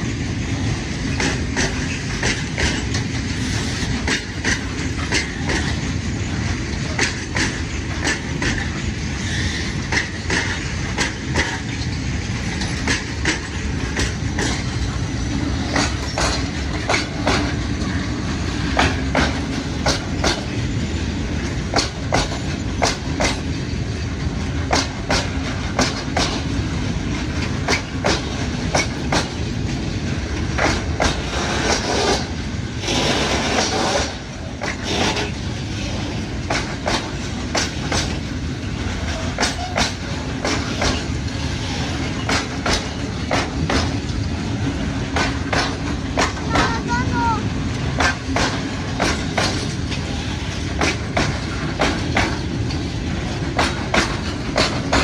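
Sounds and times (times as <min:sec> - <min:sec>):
train wheels rumbling on rail: 0:00.0 - 0:55.0
wheels clicking over rail joints: 0:00.3 - 0:55.0.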